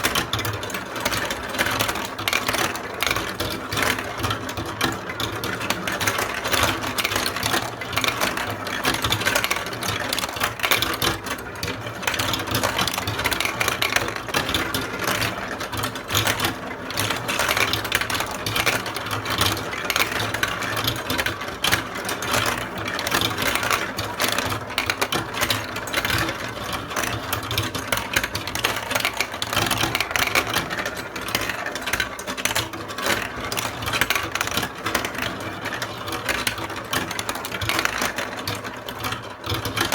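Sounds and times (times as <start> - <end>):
balls clattering through marble run: 0.0 - 39.9.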